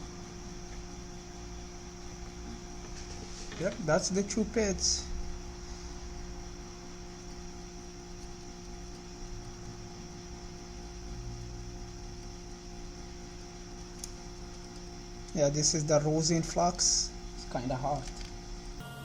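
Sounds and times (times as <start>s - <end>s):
electrical mains hum: 0.0s - 19.0s
faint high whine: 0.0s - 19.0s.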